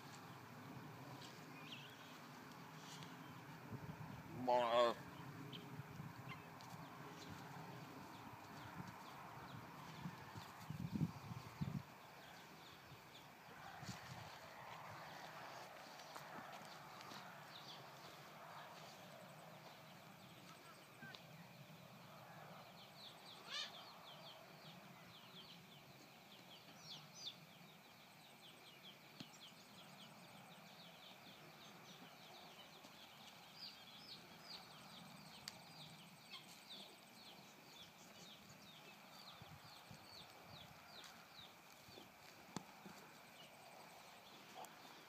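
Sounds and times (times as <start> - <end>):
small birds chirping: 0.0 - 13.6, 14.2 - 45.0.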